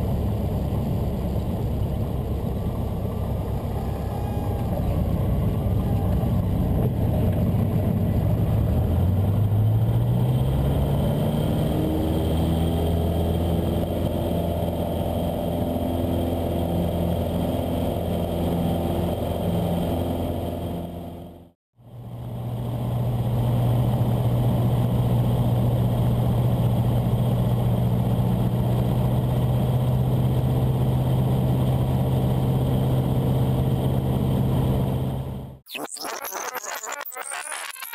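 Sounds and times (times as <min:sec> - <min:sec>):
propeller aircraft engine at full power: 0:00.0 - 0:35.6.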